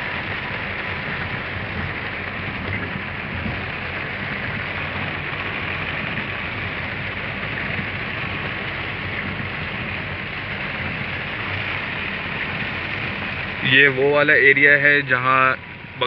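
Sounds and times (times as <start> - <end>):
heavy rain on a car: 0.0 - 16.0
low hum of car driving: 0.0 - 16.0.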